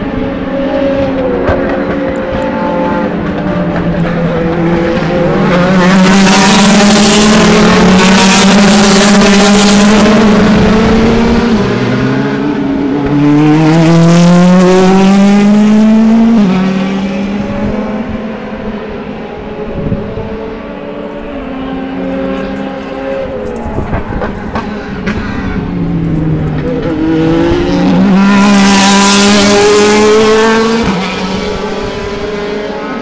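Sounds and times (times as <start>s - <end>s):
engine upshifts: 0.0s - 33.0s
race car engines accelerating past: 0.0s - 33.0s.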